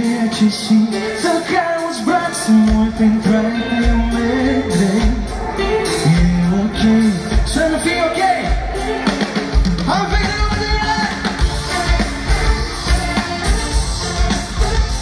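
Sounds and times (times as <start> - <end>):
man singing: 0.0 - 12.4
live band playing pop song: 0.0 - 15.0.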